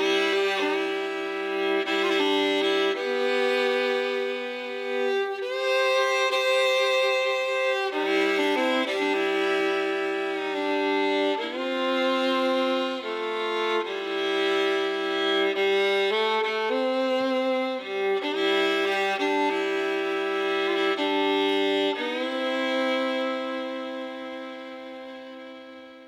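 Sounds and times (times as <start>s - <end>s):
slow fiddle melody: 0.0s - 26.0s.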